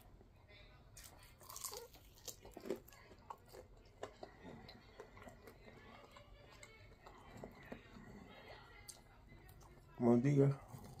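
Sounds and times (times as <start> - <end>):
close-up chewing: 1.0 - 11.0.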